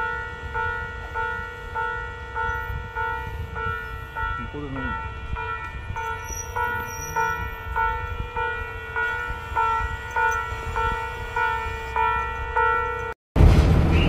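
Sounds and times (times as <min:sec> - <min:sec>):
level-crossing alarm ringing: 0:00.0 - 0:13.2
diesel railcar idling: 0:00.0 - 0:14.0.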